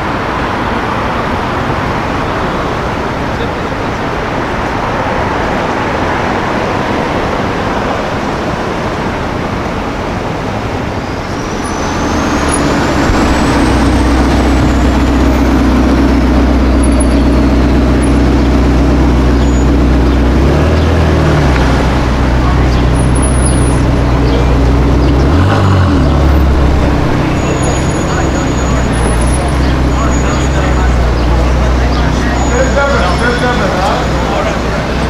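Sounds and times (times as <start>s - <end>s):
car engine low drone: 0.0s - 35.0s
city street traffic: 0.0s - 35.0s.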